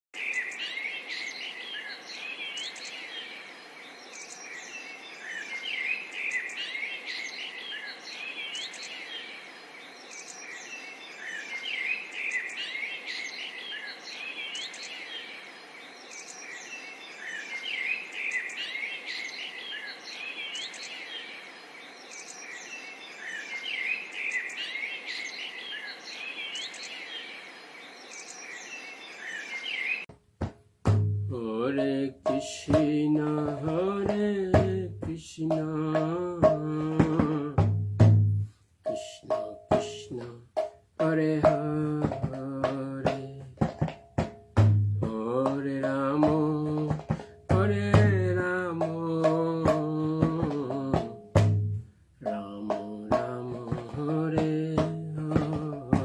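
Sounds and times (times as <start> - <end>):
small birds singing: 0.2 - 30.1, 31.0 - 56.0.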